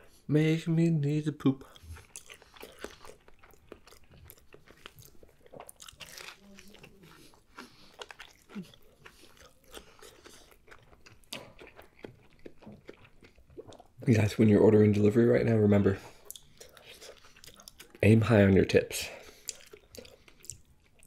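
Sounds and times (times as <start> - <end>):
wet chewing and soft crunches: 1.4 - 21.0.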